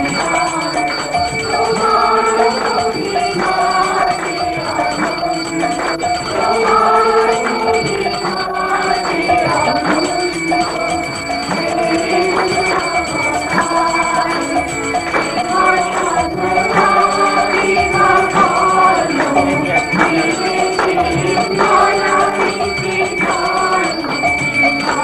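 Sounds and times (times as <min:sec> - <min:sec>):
hand percussion strokes: 0:00.0 - 0:25.0.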